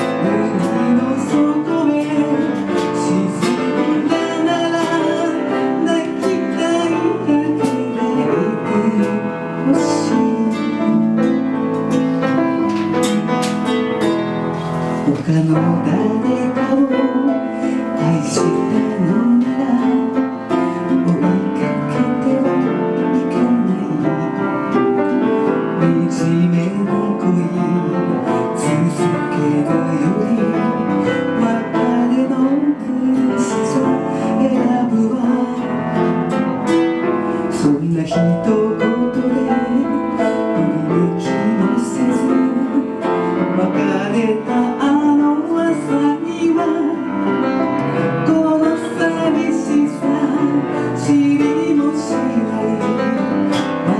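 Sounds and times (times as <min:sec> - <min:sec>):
piano playing ballad: 0:00.0 - 0:53.9
plucked guitar: 0:00.0 - 0:53.9.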